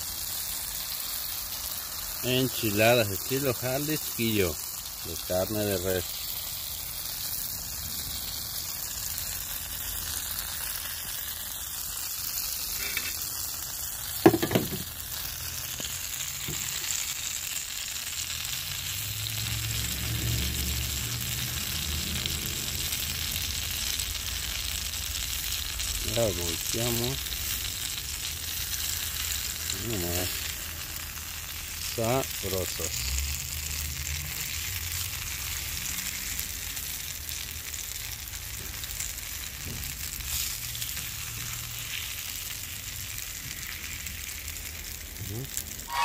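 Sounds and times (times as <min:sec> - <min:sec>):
food sizzling in hot oil: 0:00.0 - 0:46.0.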